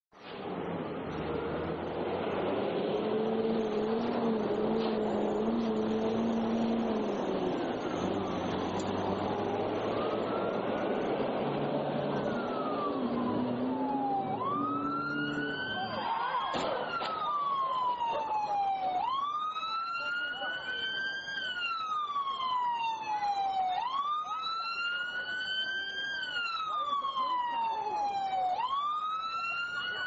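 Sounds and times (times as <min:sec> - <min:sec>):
vehicle engine rumble: 0:00.2 - 0:30.0
siren wailing: 0:00.7 - 0:30.0.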